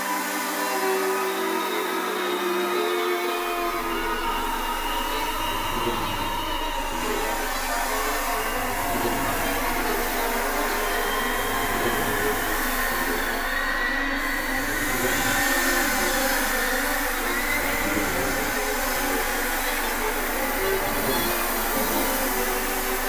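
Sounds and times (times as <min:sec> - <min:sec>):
string quartet and synthesizer: 0:00.0 - 0:23.0.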